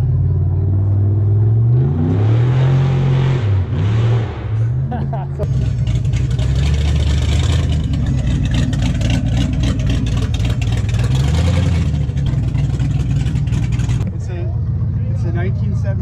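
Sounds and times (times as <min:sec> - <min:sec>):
car engine idling: 0:00.0 - 0:01.9, 0:04.5 - 0:16.0.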